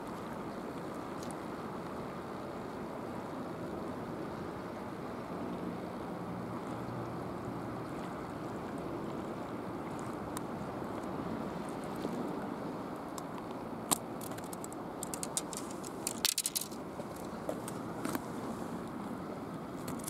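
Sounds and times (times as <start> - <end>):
sea noise: 0.0 - 20.0
wind: 0.0 - 20.0.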